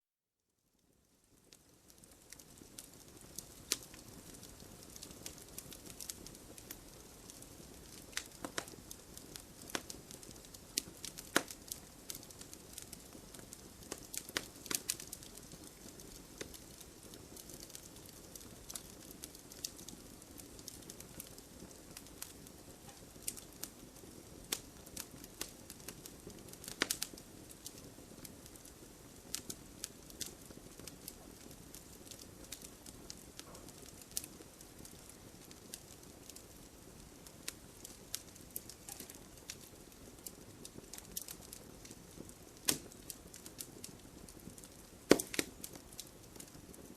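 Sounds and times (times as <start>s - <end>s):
campfire pops and crackles: 0.8s - 46.9s.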